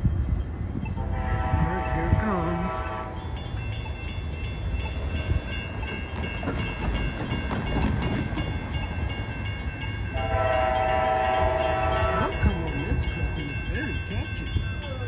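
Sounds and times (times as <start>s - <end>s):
crossing warning bell ringing: 0.0s - 15.0s.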